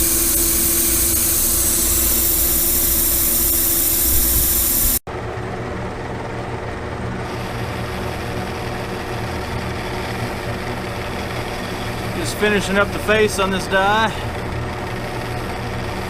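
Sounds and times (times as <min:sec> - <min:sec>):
metal lathe cutting steel: 0:00.0 - 0:05.0, 0:07.2 - 0:16.0.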